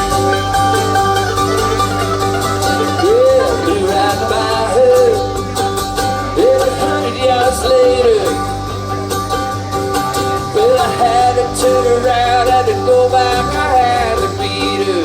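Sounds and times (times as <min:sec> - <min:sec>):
country-rock trio playing: 0:00.0 - 0:15.0
sliding bending lead guitar: 0:00.0 - 0:15.0.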